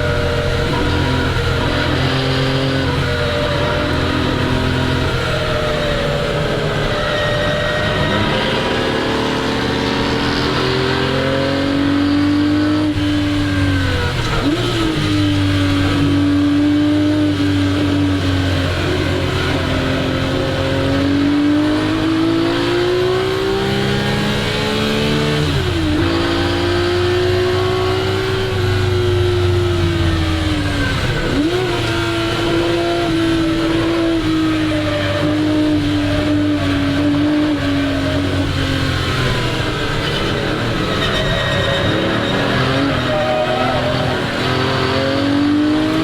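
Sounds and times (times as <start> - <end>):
engine revving under hard driving: 0.0 - 46.0.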